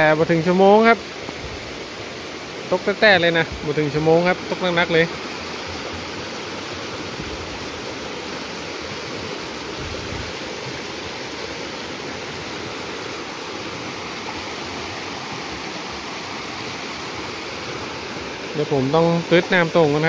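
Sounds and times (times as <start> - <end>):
floodwater rushing over a ledge: 0.0 - 20.0.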